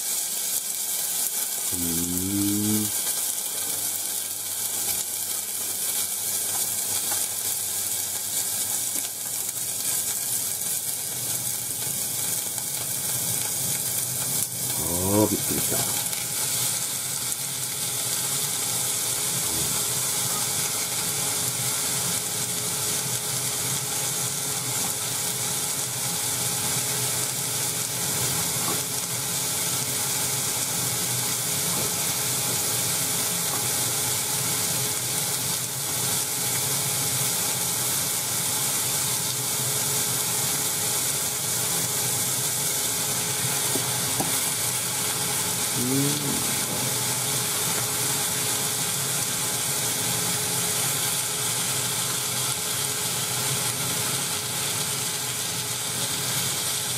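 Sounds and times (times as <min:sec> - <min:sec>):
vegetables sizzling in a saucepan: 0:00.0 - 0:56.9.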